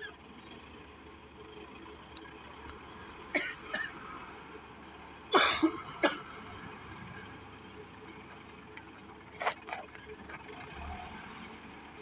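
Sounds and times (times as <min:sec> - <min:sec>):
construction machinery droning: 0:00.0 - 0:12.0.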